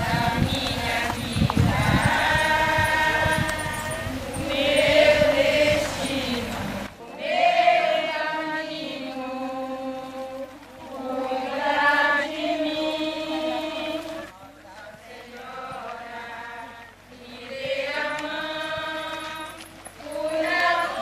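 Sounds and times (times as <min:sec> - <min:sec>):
voices singing a hymn: 0:00.0 - 0:21.0.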